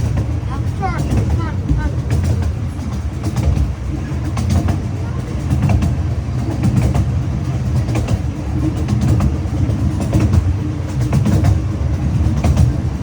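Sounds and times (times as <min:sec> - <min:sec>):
train rumbling: 0:00.0 - 0:13.0
wheels clicking over rails: 0:00.0 - 0:13.0.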